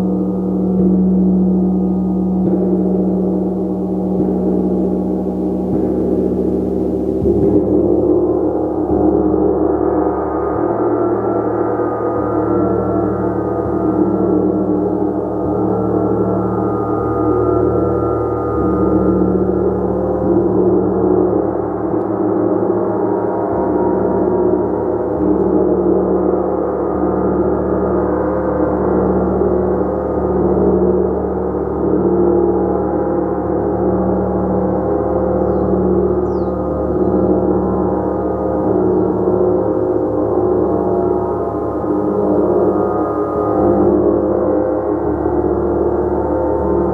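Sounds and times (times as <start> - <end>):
gong played continuously: 0.0 - 46.9.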